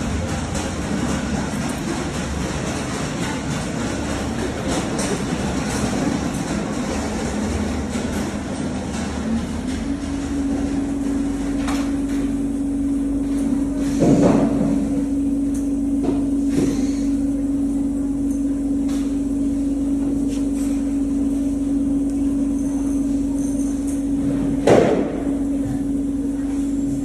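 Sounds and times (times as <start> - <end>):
grinding machine hum: 0.0 - 27.0.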